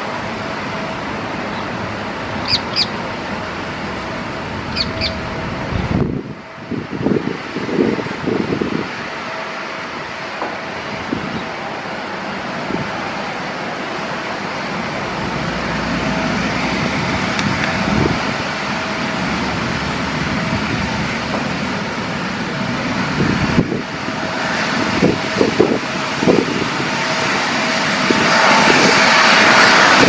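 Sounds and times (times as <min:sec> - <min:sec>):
faint jet engine whine: 0:00.0 - 0:30.0
jet engines rushing roar: 0:00.0 - 0:30.0.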